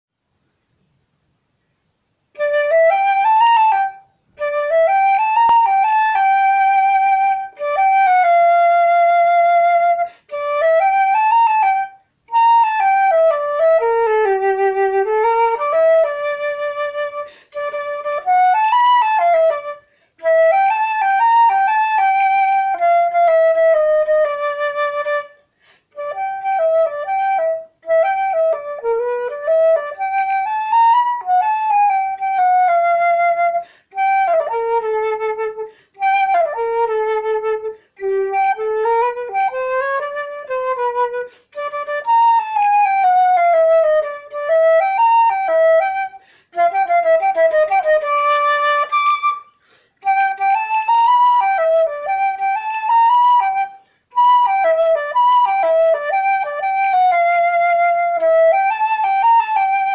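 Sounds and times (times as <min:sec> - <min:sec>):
solo flute blues melody: 0:02.2 - 0:59.9.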